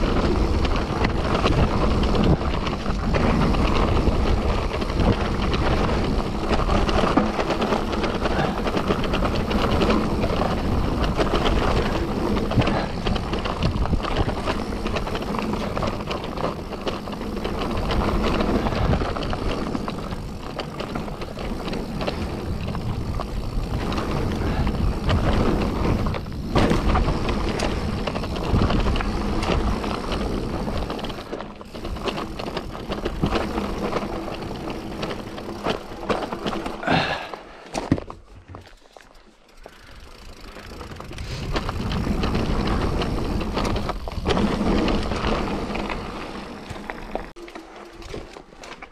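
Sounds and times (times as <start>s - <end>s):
bike rattling and knocking: 0.0s - 48.9s
bike tyre rumble on trail: 0.0s - 48.9s.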